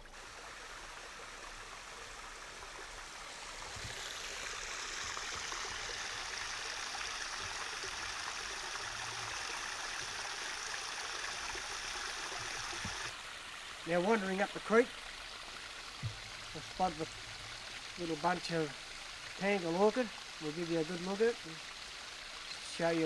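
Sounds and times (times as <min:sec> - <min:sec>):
creek water running: 0:00.0 - 0:23.0.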